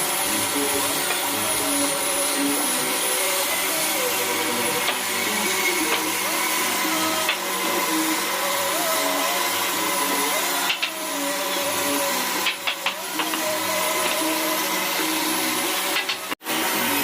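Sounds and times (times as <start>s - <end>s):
power tool motor running: 0.0s - 17.0s.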